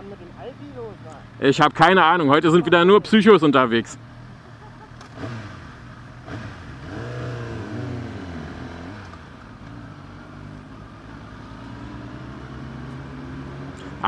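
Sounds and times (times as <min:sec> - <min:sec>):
motorcycle engine revving: 0:01.8 - 0:14.0.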